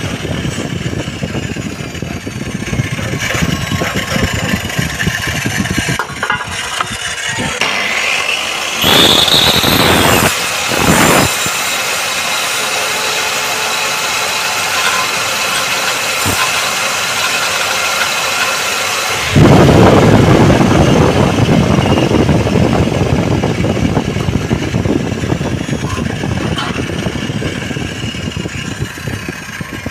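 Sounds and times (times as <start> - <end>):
miter saw cutting aluminium: 0.0 - 29.9.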